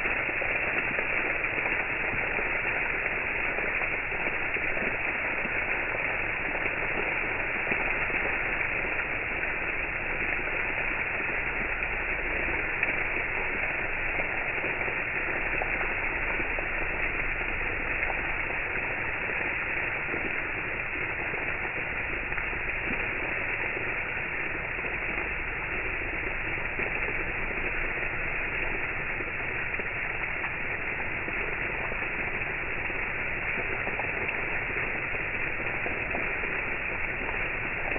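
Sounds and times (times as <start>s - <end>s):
water fountain splashing: 0.0s - 37.9s.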